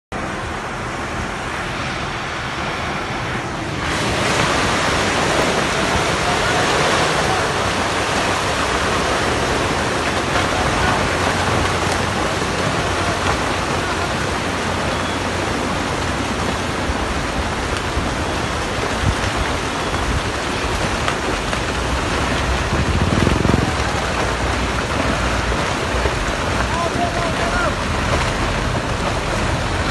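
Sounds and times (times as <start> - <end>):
rocks and soil rushing downhill: 3.8 - 29.9.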